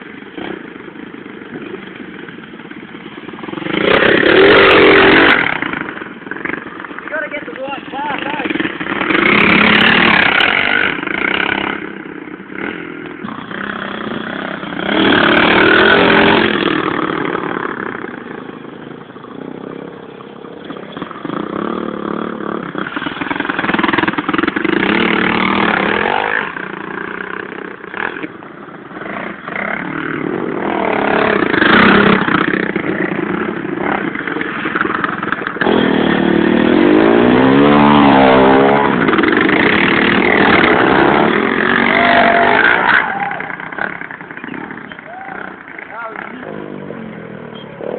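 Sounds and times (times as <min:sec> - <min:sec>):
pit bike engines revving: 0:00.0 - 0:47.9.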